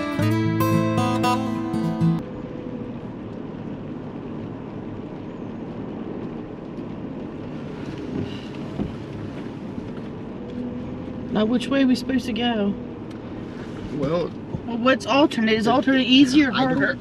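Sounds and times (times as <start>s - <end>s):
vehicle engine rumble from inside: 0.0s - 17.0s.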